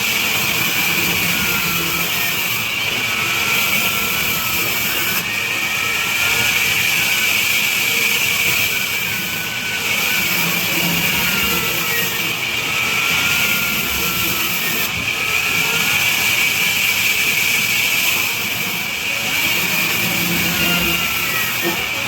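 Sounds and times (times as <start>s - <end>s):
band saw running: 0.0s - 22.0s.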